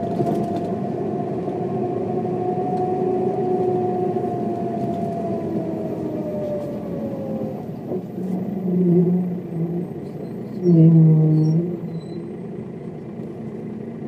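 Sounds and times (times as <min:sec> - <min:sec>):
bus whine falling in pitch: 0:00.0 - 0:14.0
low bus engine note: 0:00.0 - 0:14.0.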